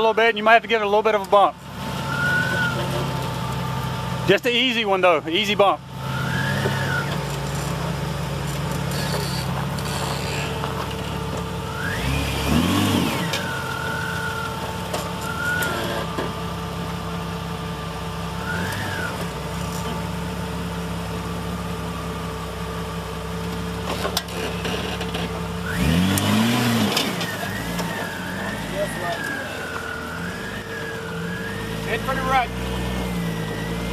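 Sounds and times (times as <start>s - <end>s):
car engine idling and crawling: 0.0s - 33.9s.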